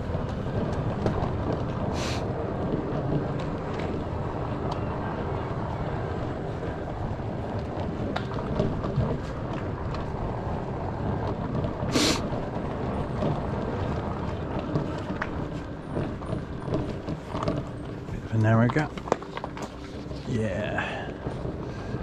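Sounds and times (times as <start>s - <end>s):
tyres rumbling on tarmac: 0.0s - 22.0s.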